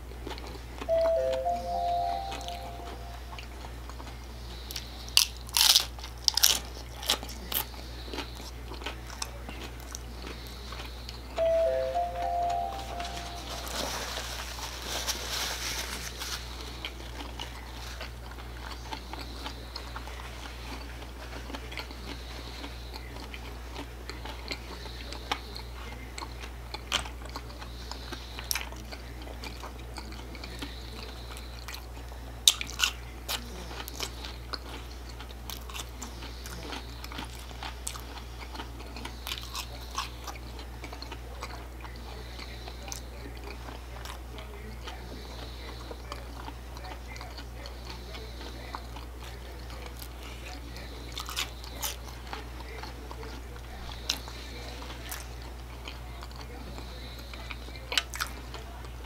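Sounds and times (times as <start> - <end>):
chewing and crunching: 0.0 - 59.0
faint low hum: 0.0 - 59.0.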